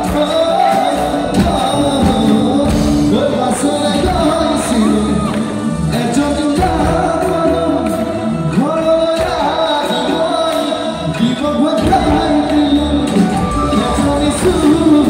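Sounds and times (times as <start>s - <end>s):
electric guitar: 0.0s - 15.0s
keyboards: 0.0s - 15.0s
man singing into a microphone: 0.0s - 15.0s.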